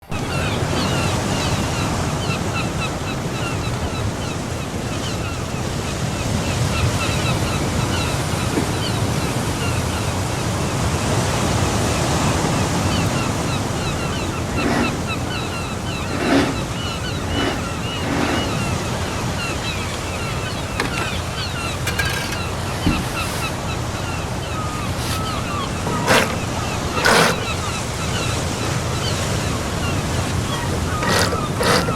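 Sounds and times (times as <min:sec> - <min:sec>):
wind: 0:00.0 - 0:31.9.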